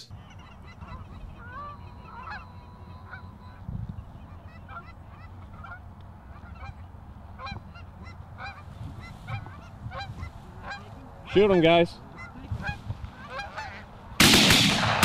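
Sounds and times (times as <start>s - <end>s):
geese honking: 0.0s - 14.4s.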